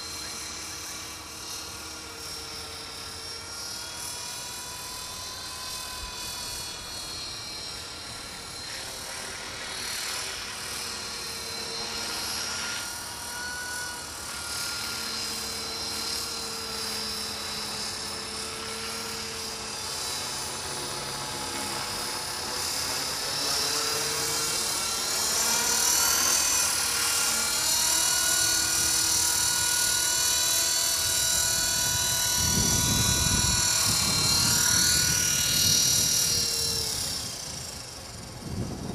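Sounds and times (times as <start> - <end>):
rc helicopter motor and rotors whining: 0.0 - 38.9.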